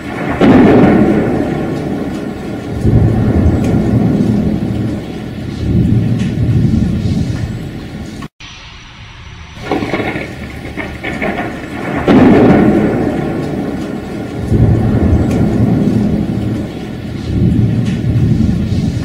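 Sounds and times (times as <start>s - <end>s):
loud thunder clap: 0.0s - 19.0s
low thunder rumble: 0.0s - 19.0s
rain: 0.0s - 19.0s.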